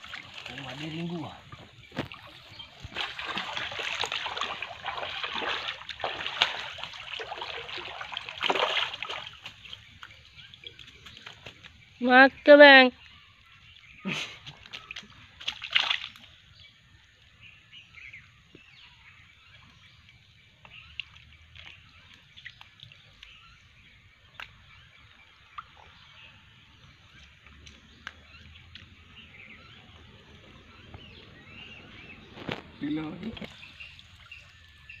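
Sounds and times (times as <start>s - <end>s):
stream water splashing: 0.0s - 17.4s, 18.0s - 35.0s
water dripping and sloshing: 0.0s - 17.4s, 19.5s - 35.0s.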